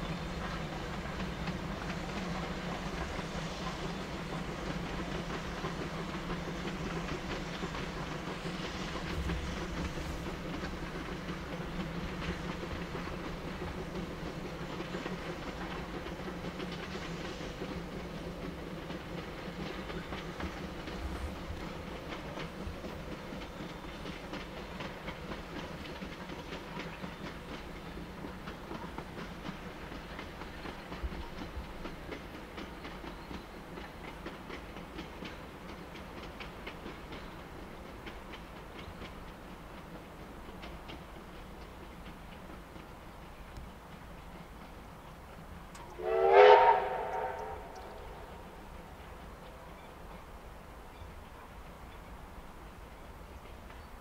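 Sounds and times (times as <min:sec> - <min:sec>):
train rumbling on rails: 0:00.0 - 0:54.0
wheels clicking over rail joints: 0:00.0 - 0:54.0.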